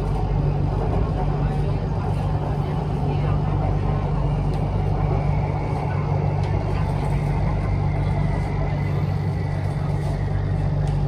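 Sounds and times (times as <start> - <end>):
electric train hum and rumble: 0.0 - 11.0.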